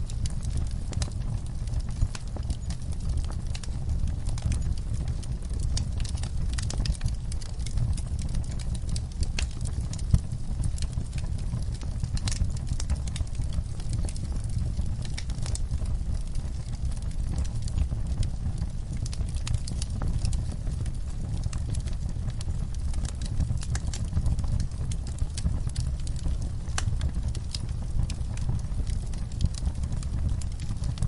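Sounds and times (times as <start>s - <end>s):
burning logs crackling and popping: 0.0s - 31.0s
low rumble of flames: 0.0s - 31.0s.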